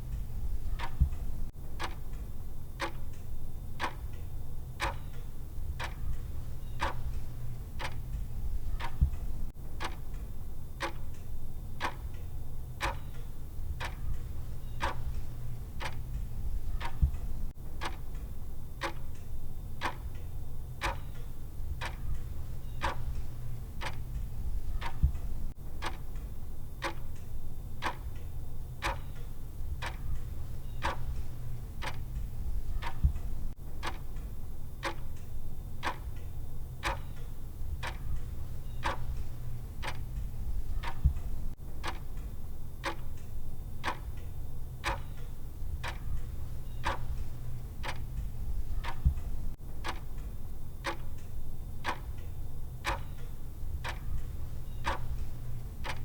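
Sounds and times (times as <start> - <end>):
timer ticking: 0.0 - 2.2, 2.8 - 56.0
steady low hum: 0.0 - 56.0.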